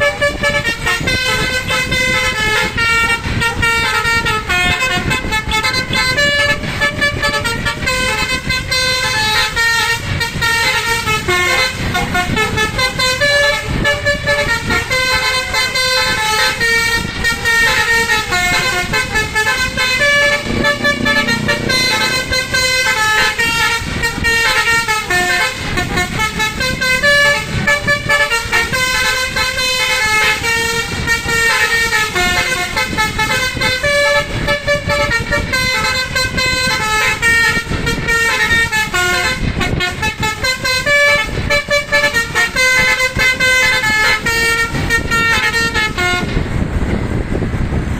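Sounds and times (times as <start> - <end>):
bus horn playing fast melody: 0.0 - 46.6
bus engine rumbling: 0.0 - 47.9.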